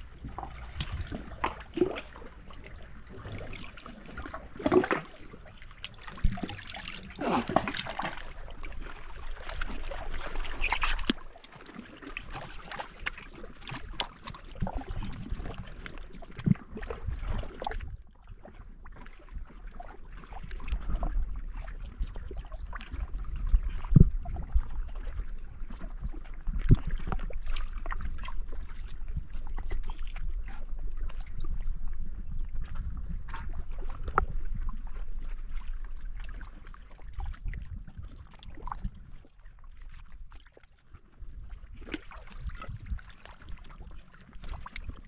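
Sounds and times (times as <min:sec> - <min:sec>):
wind rumble on microphone: 0:00.0 - 0:11.2, 0:13.4 - 0:45.0
water lapping around boat: 0:00.0 - 0:45.0.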